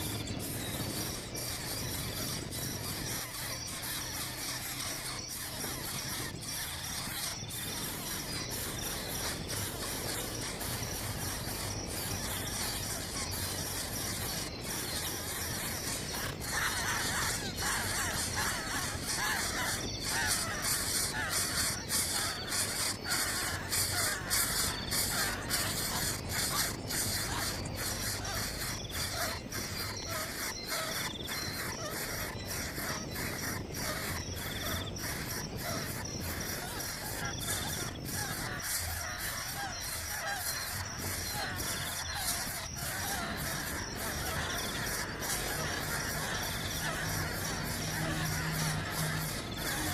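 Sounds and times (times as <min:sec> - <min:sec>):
harsh chattering bird calls: 0:00.0 - 0:49.9.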